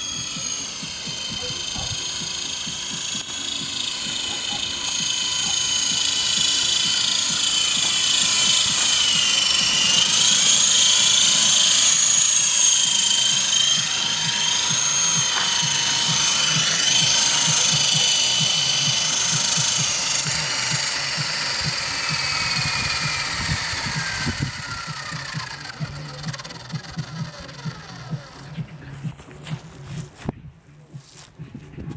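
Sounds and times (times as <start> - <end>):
rc helicopter motor whine: 0.0 - 30.4.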